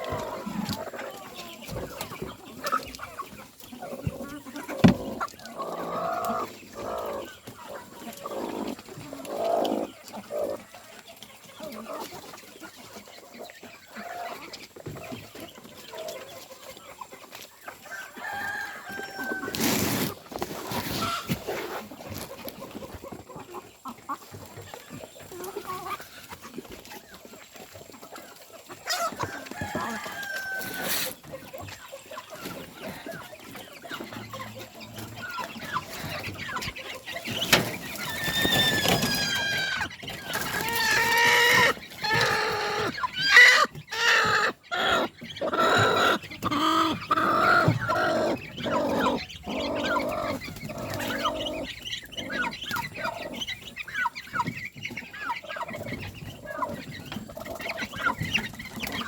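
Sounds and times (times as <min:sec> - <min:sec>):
chickens clucking and calling: 0:00.0 - 0:59.0.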